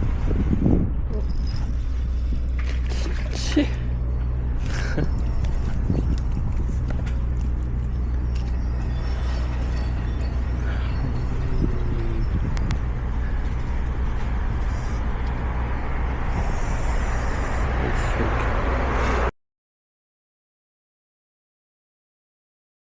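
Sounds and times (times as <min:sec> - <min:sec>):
vehicle engine hum: 0:00.0 - 0:19.3.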